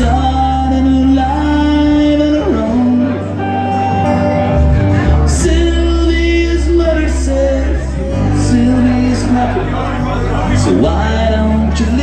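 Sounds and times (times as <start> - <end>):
live band playing pop ballad: 0.0 - 12.0
person singing: 0.0 - 12.0.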